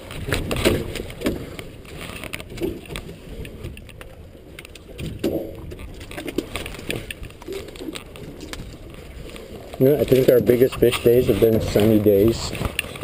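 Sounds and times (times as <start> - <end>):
water splashes: 0.0 - 13.0.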